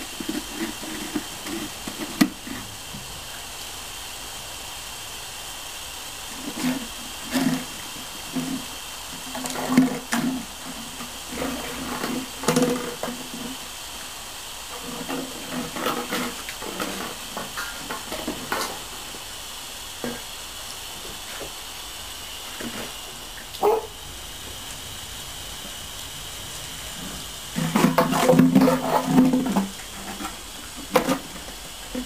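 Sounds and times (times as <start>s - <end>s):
garden hose hissing: 0.0s - 32.0s.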